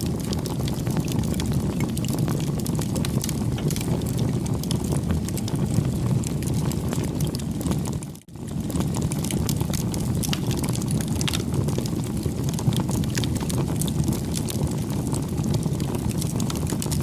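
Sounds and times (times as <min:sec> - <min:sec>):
wood fire burning and crackling: 0:00.0 - 0:17.0.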